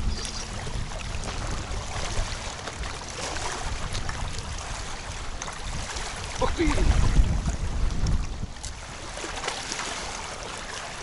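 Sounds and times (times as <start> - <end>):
small waves lapping: 0.0 - 11.0
wind buffeting microphone: 0.0 - 11.0.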